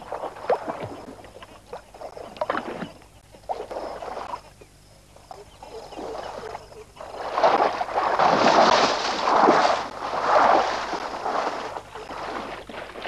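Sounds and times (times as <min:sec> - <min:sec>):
water sloshing and splashing: 0:00.0 - 0:04.5, 0:05.7 - 0:13.0.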